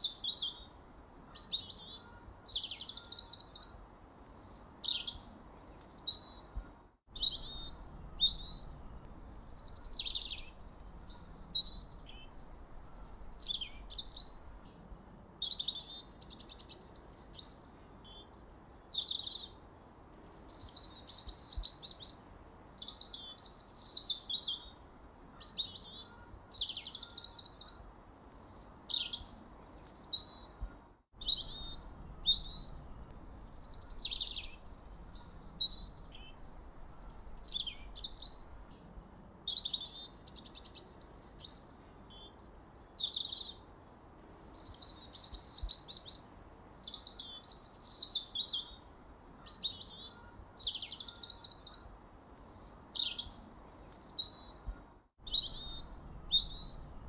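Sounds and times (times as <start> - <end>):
faint low hiss: 0.0 - 57.0
songbirds singing: 0.0 - 57.0.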